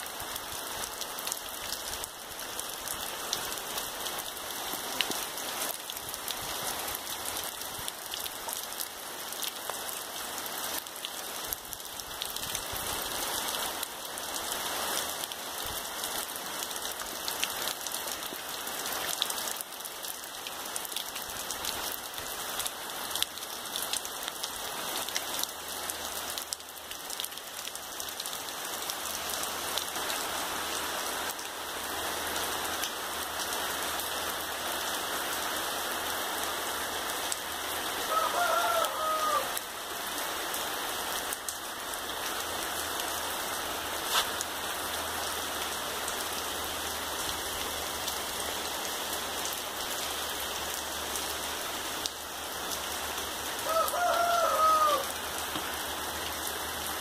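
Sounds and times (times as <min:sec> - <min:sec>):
rain falling on trees and grass: 0:00.0 - 0:57.0.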